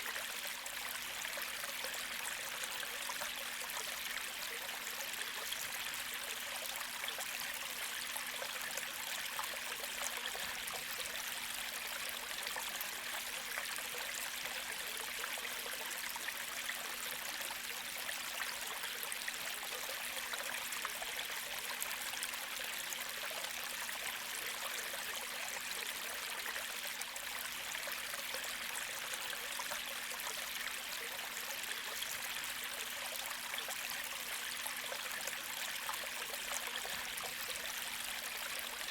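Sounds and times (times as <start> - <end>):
creek flowing: 0.0 - 38.9.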